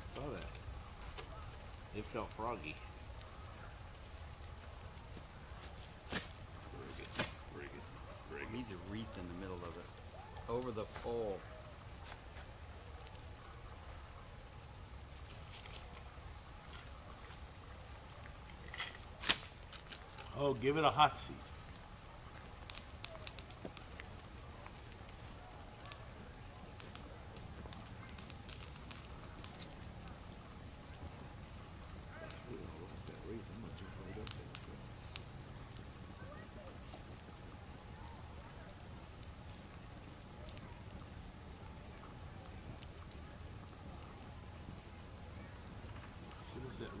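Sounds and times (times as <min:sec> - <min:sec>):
campfire crackling and popping: 0:00.0 - 0:47.0
crickets chirring: 0:00.0 - 0:47.0.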